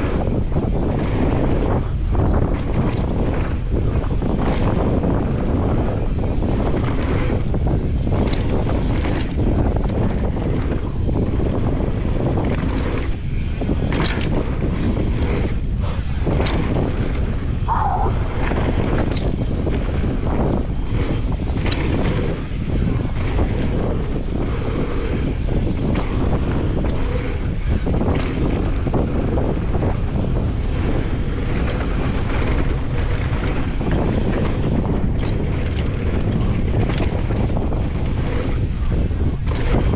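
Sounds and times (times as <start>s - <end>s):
bike rattling over bumps: 0.0s - 39.9s
bike tyre noise on dirt: 0.0s - 39.9s
wind rush on microphone: 0.0s - 39.9s.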